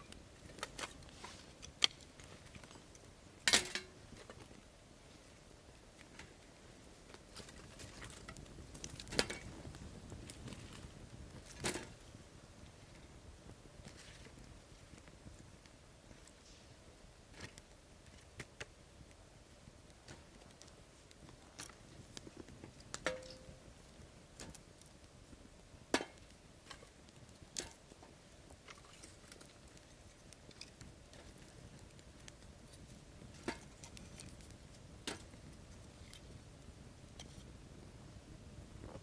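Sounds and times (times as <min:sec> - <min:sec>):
wood fire crackling: 0:00.0 - 0:39.0
sharp pops from fire: 0:00.1 - 0:16.6, 0:17.3 - 0:37.9.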